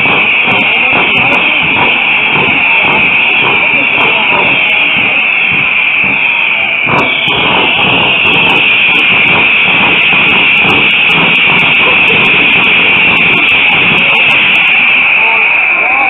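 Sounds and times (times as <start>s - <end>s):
firework bang: 0.0s - 15.5s
firework fountains hissing: 0.0s - 16.0s.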